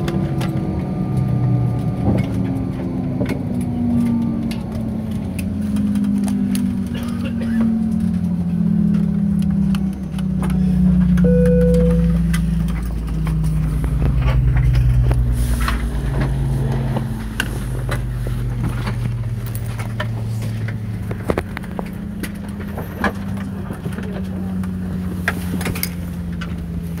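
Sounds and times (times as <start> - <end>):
airplane cabin hum: 0.0 - 27.0.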